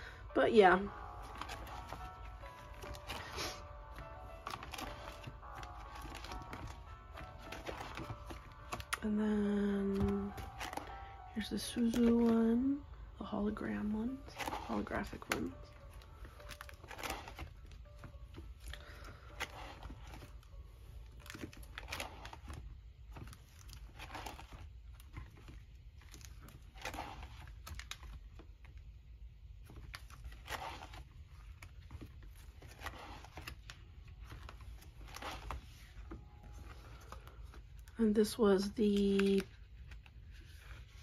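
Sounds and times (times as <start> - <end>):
plastic sleeves crinkling: 0.9 - 41.0.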